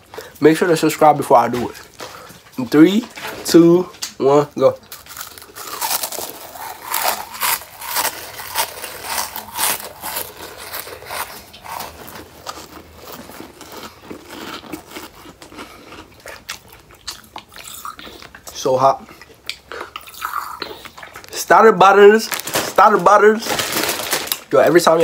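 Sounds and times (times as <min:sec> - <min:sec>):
crunching and chewing chips: 0:00.0 - 0:25.0.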